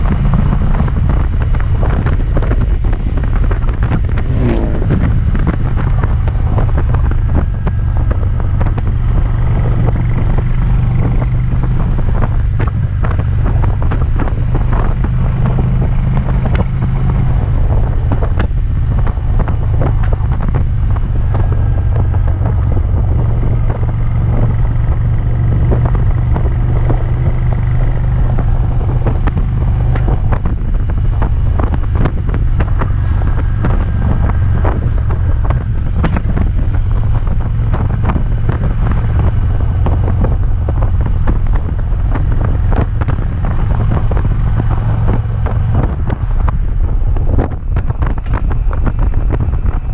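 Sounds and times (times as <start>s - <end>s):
motorcycle engine under load: 0.0s - 49.9s
wind on microphone: 0.0s - 49.9s.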